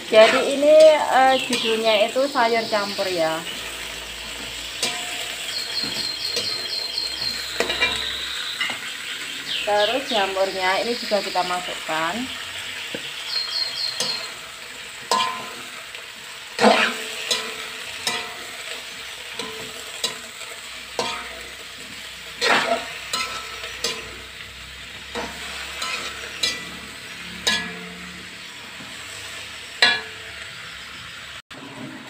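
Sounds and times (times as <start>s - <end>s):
metal spatula scraping wok: 0.0s - 9.4s, 10.2s - 32.0s
food sizzling: 0.0s - 32.0s.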